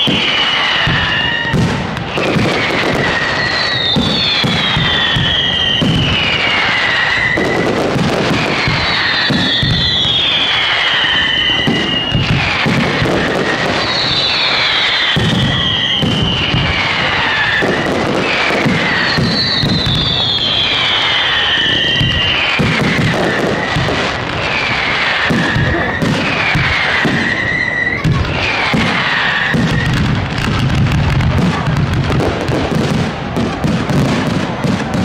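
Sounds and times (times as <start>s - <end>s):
falling whistling fireworks: 0.0s - 35.0s
fireworks bangs and crackling: 0.0s - 35.0s.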